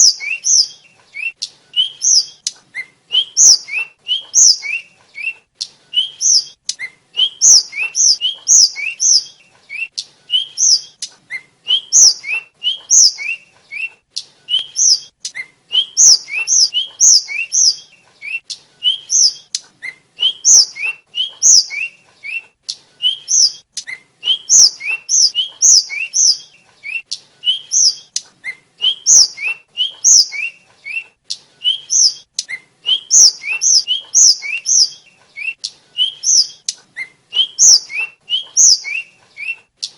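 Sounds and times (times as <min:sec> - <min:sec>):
flycatcher whistling song: 0:00.0 - 0:39.9.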